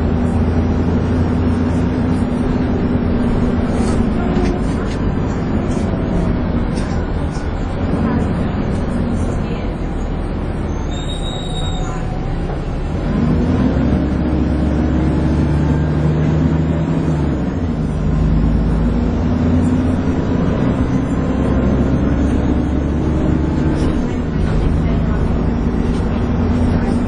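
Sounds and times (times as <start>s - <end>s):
bus diesel engine whining: 0.0s - 27.0s.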